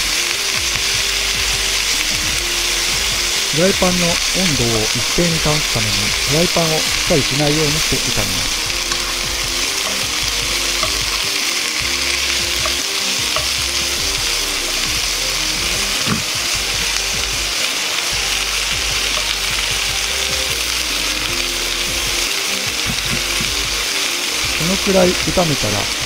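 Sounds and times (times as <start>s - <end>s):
vegetables sizzling in frying pan: 0.0s - 26.0s.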